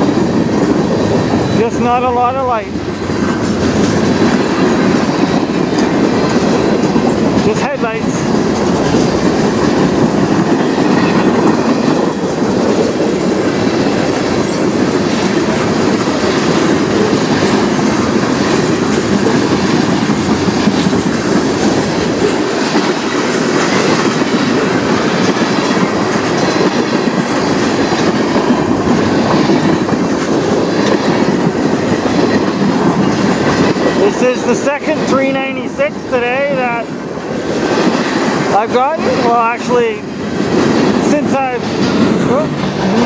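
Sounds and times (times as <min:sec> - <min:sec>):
freight train rumbling: 0:00.0 - 0:43.0
wheels clacking over rail joints: 0:00.0 - 0:43.0.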